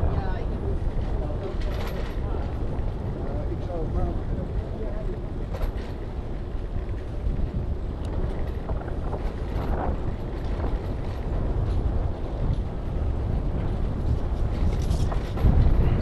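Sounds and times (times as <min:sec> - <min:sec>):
bicycle rolling over brick pavement: 0:00.0 - 0:16.0
wind buffeting microphone: 0:00.0 - 0:16.0.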